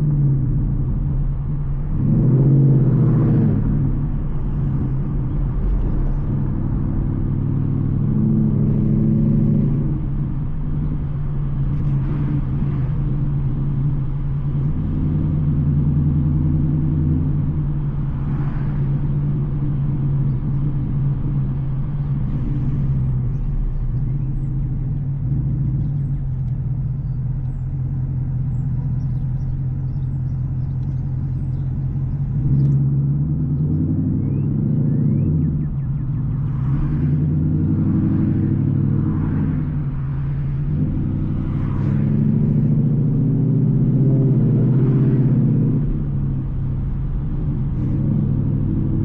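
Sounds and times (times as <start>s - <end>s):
car engine deep exhaust note: 0.0s - 49.0s.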